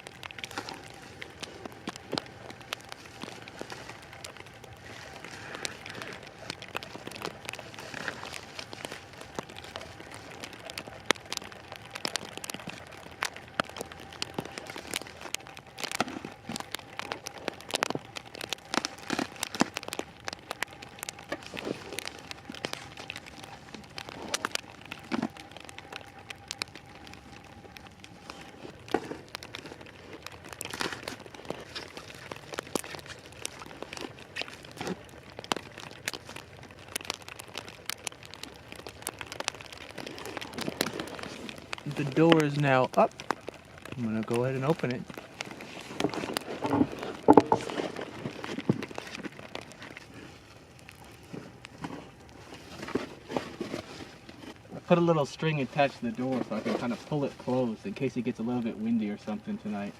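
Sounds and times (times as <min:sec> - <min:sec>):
plastic wrap crinkling: 0:00.0 - 0:59.9.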